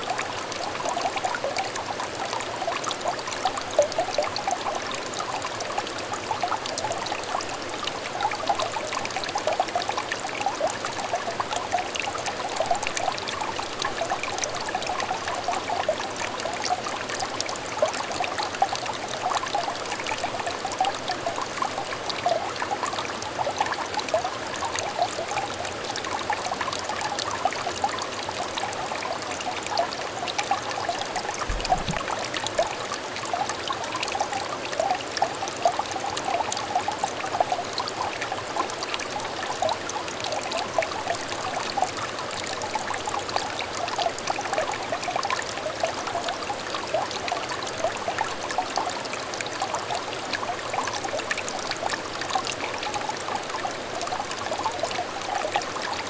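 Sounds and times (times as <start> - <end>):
stream trickling and bubbling: 0.0 - 56.0.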